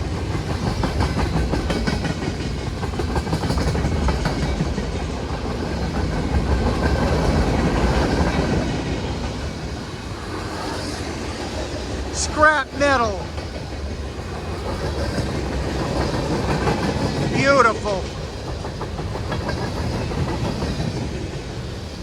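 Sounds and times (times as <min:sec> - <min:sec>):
wheels clicking on rails: 0:00.0 - 0:12.1, 0:13.2 - 0:22.0
freight train cars rumbling past: 0:00.0 - 0:22.0.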